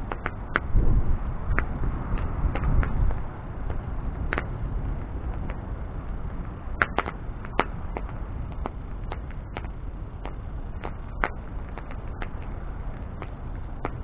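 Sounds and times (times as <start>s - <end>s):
bonfire crackling: 0.0s - 14.0s.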